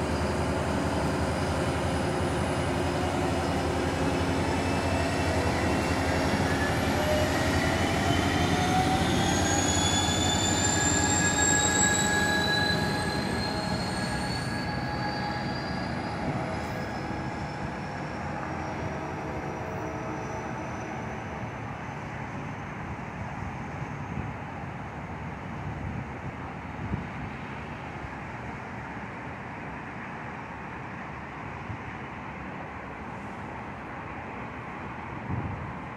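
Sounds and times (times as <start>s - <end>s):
train rumbling along track: 0.0s - 35.9s.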